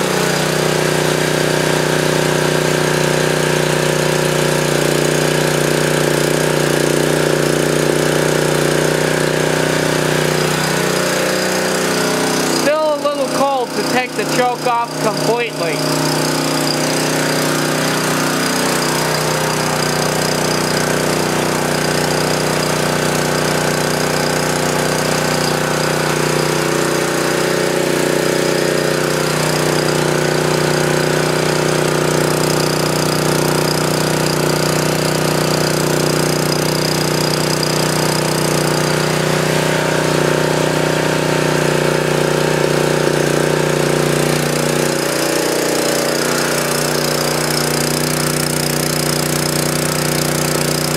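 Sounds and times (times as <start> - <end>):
generator engine running: 0.0 - 50.9.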